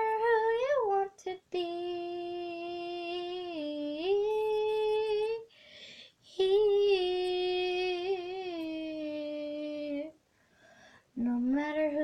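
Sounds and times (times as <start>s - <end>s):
girl singing unaccompanied: 0.0s - 5.5s, 6.2s - 10.2s, 11.1s - 12.0s.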